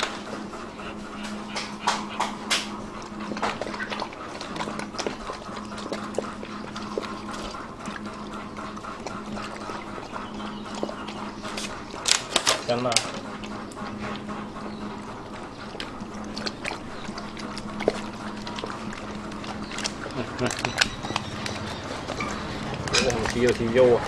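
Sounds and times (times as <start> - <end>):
dogs chewing and crunching: 0.0 - 24.0.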